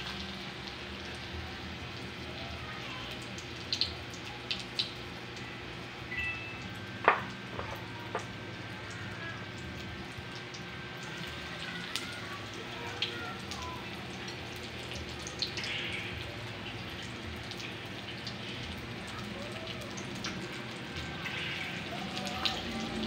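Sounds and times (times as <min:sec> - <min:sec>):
crackles and pops of frying: 0:00.0 - 0:23.0
oil sizzling in a frying pan: 0:00.0 - 0:23.0.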